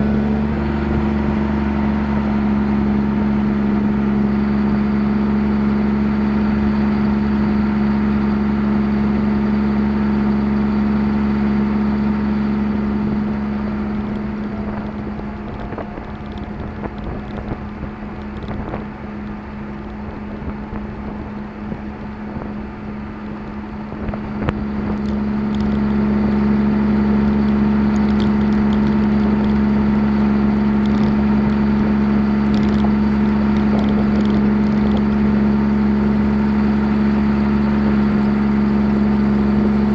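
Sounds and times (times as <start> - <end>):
tractor engine drone: 0.0 - 39.9.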